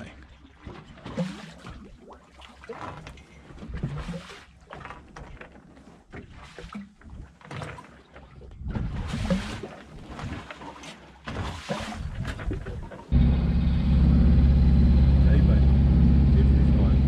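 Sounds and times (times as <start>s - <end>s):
boat knocks and creaks: 0.0s - 14.0s
water sloshing against hull: 0.0s - 15.0s.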